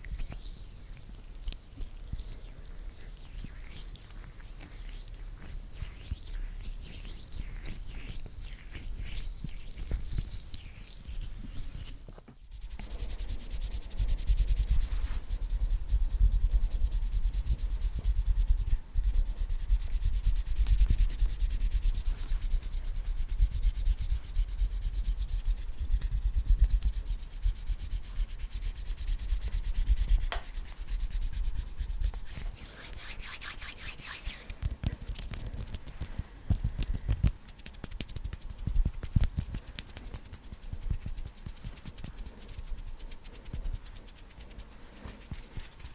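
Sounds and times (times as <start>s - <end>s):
hands rubbing together: 3.6s - 45.9s.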